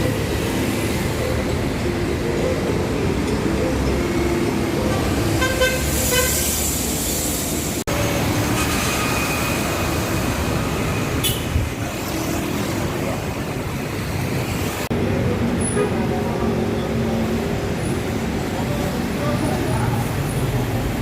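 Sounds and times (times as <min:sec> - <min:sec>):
busy street traffic with buses: 0:00.0 - 0:21.0.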